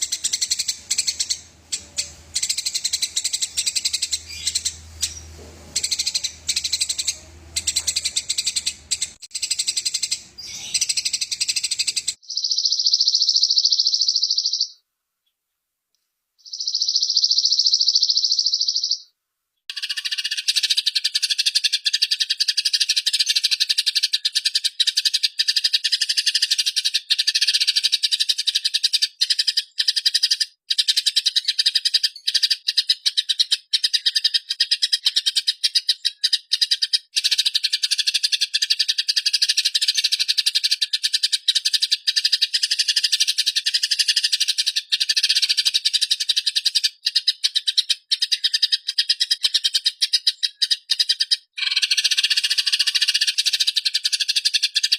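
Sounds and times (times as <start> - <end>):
sparrow chattering: 0.0 - 14.8, 16.4 - 19.0, 19.7 - 54.9.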